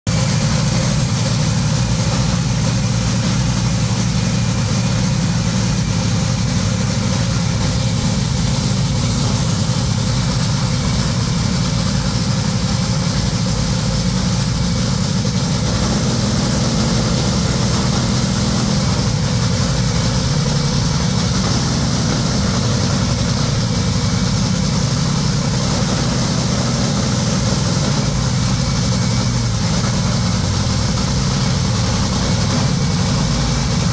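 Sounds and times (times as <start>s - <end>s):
dragster engine idling loudly: 0.1s - 33.9s.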